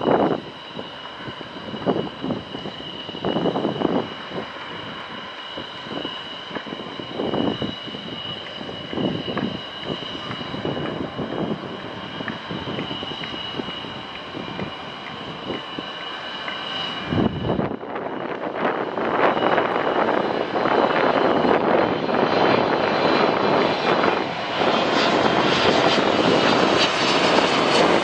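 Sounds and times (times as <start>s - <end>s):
jet engines running at taxi power: 0.0s - 28.0s.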